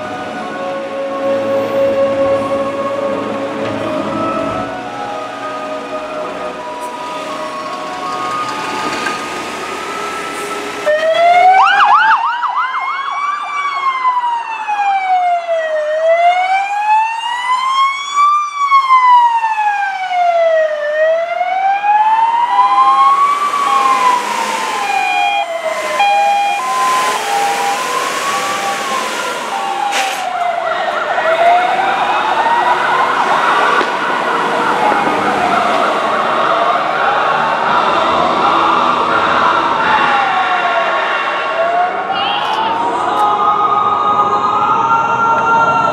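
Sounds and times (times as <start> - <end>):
fire engine siren wailing: 0.0 - 45.9.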